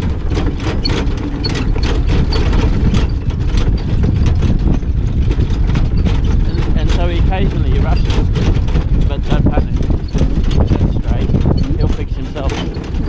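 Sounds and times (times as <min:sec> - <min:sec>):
carriage wheels rumbling: 0:00.0 - 0:13.0
horse hoofbeats: 0:00.0 - 0:13.0.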